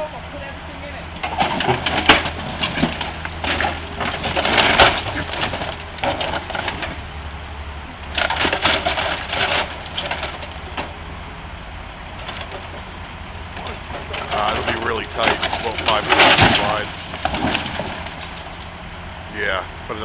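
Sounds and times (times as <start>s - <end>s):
excavator engine running: 0.0s - 20.0s
metal creaking and crunching: 0.0s - 20.0s.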